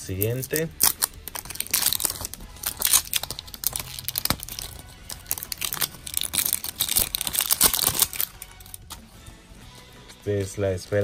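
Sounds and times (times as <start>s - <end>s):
plastic wrapping crinkling and tearing: 0.0s - 9.0s.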